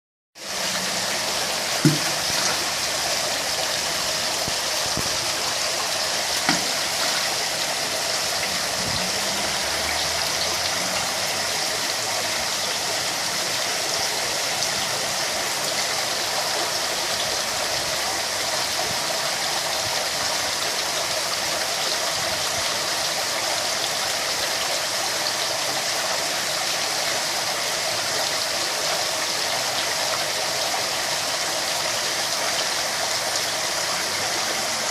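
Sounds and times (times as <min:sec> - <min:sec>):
water rushing into pond: 0:00.4 - 0:34.9.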